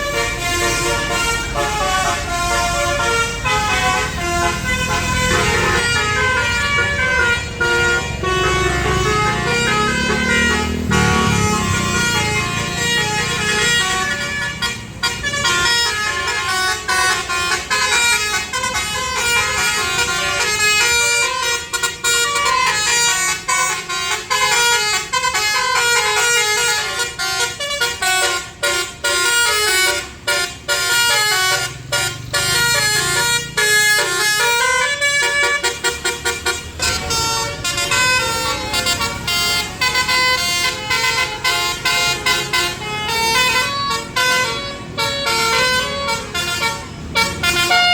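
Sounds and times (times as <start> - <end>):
low engine rumble: 0.0 - 47.9
musical bus horn melody: 0.0 - 47.9.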